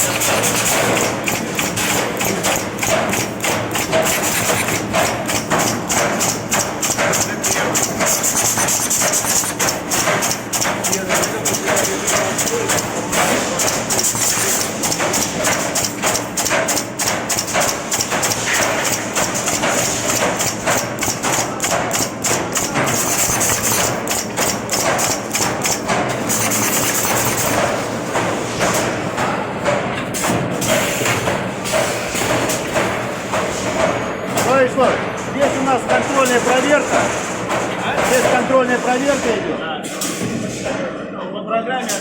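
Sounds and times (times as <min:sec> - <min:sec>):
welding machine knocks and thumps: 0:00.0 - 0:38.6.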